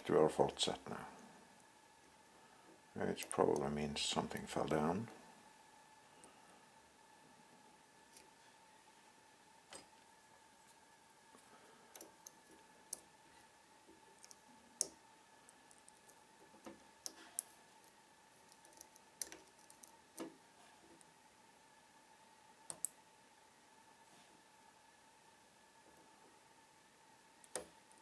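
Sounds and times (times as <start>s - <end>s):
faint steady whine: 0.0s - 28.0s.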